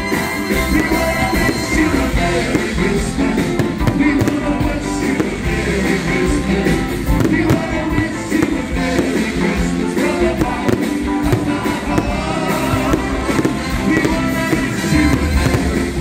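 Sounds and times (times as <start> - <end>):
music with singing: 0.0 - 16.0
firework bangs: 0.7 - 16.0.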